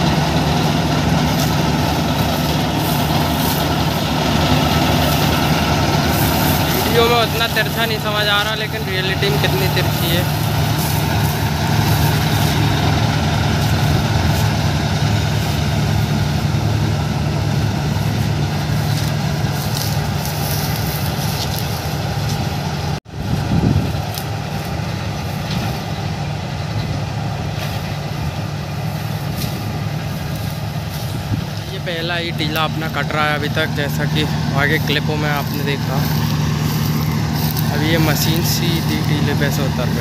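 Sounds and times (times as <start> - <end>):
combine harvester engine and machinery: 0.0 - 40.0.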